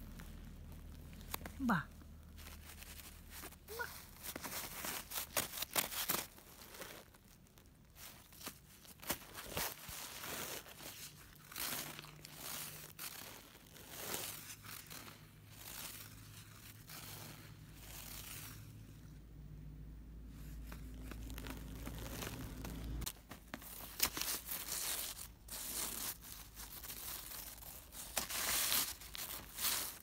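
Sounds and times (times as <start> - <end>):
newspaper rustling and tearing: 0.0 - 19.1, 20.3 - 30.0.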